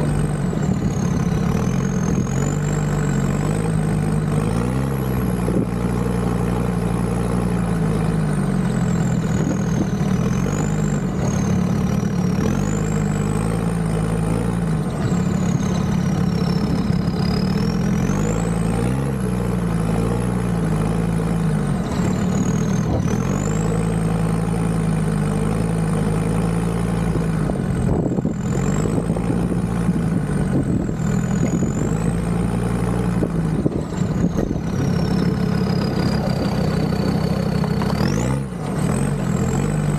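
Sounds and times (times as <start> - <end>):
diesel engine pulling off-road: 0.0 - 39.9
high turbo whine: 0.0 - 39.9.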